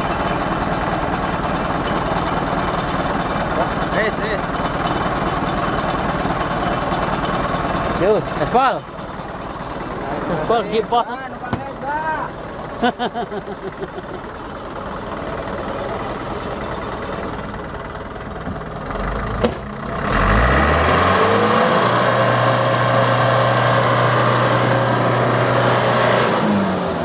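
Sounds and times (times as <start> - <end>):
truck diesel engine revving: 0.0 - 27.0.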